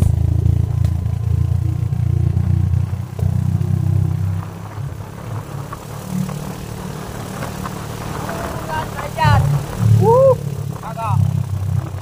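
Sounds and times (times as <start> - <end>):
faint rattles: 0.0 - 12.0
motorcycle engine rumble: 0.0 - 12.0.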